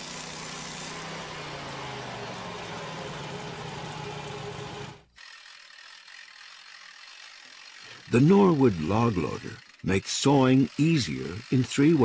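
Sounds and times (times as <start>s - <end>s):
band sawmill cutting log: 0.0s - 12.0s
steady mechanical sound: 0.0s - 12.0s.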